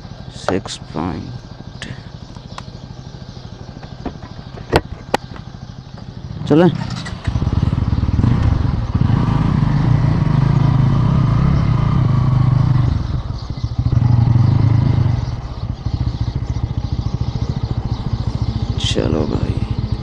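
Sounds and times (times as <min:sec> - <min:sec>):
motorcycle engine pulling away: 0:00.0 - 0:20.0.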